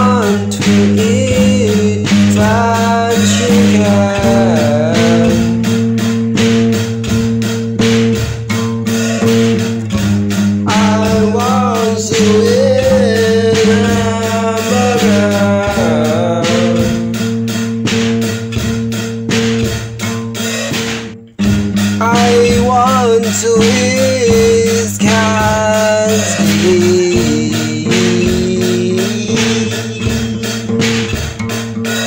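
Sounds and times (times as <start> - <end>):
bending melody line: 0.0 - 32.0
song with steady beat and chords: 0.0 - 32.0.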